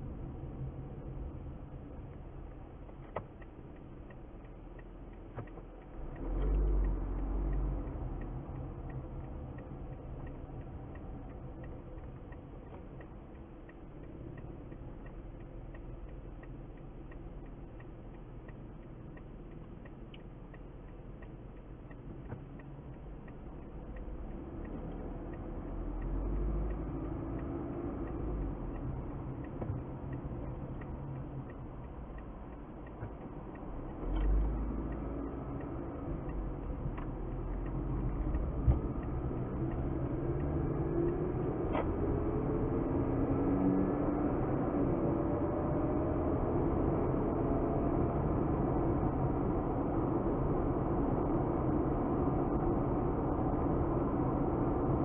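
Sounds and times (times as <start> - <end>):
car engine hum: 0.0 - 55.0
road rumble: 0.0 - 55.0
faint ticks: 0.1 - 55.0.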